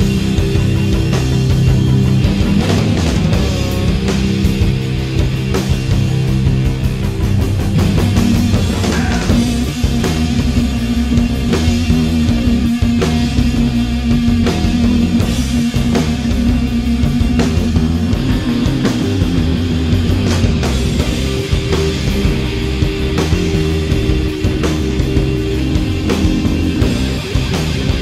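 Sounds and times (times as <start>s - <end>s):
drum kit playing: 0.0s - 28.0s
electric guitar: 0.0s - 28.0s.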